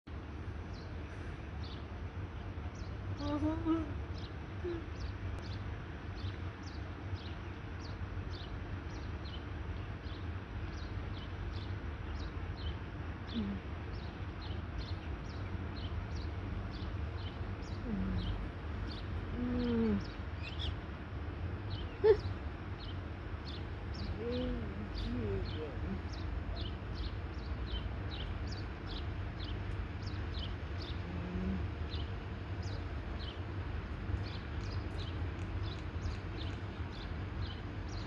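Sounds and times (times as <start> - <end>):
low rumble of background noise: 0.1 - 38.0
small bird chirping: 2.7 - 20.8, 21.6 - 38.0.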